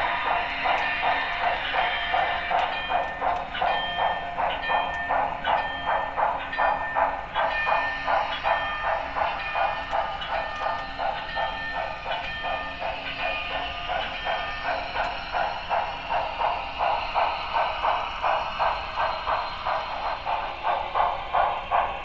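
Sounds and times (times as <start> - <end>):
model train steam chuffs: 0.0 - 22.0.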